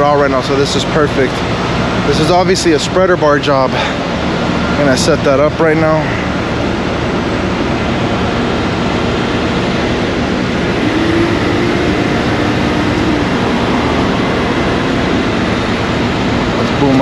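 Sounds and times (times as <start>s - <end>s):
boom hoist hum: 0.0s - 17.0s
diesel truck engine rumble: 0.0s - 17.0s.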